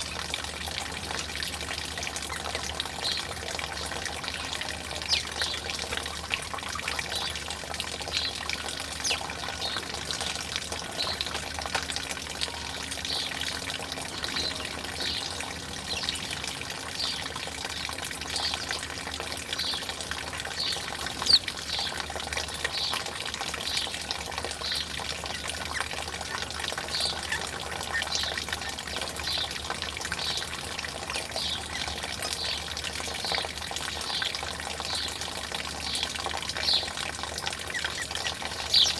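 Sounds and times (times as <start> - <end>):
trickling water: 0.0 - 38.9.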